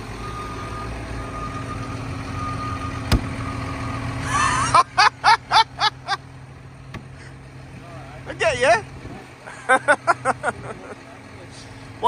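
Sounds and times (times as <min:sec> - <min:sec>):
diesel tractor idling: 0:00.0 - 0:12.0.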